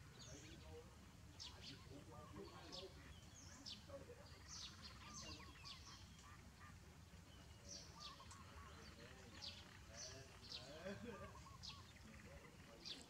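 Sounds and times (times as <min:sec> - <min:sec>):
soft low warbling bird calls: 0:00.0 - 0:13.0.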